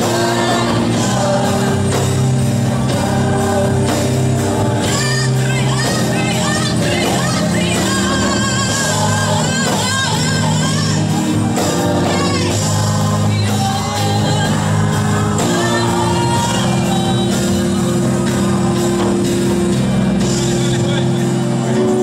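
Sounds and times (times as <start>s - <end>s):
choir singing gospel: 0.0s - 22.0s.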